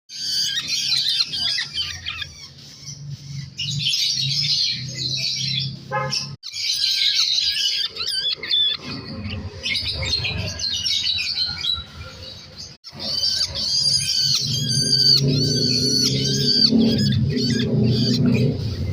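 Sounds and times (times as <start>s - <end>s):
baby birds begging calls: 0.1s - 18.9s.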